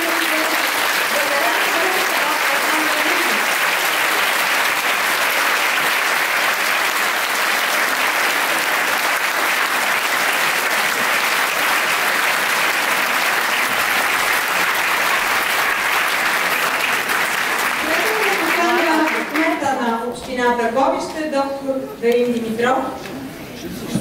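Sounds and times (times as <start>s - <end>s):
audience applauding: 0.0s - 19.8s.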